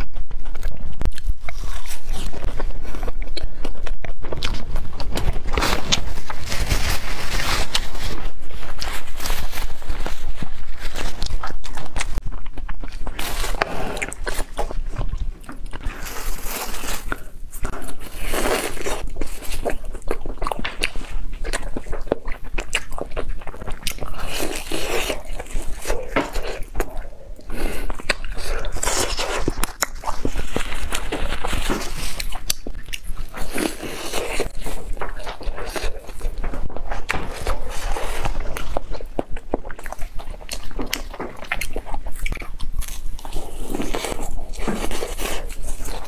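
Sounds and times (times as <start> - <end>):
biting and chewing bread: 0.0 - 46.0.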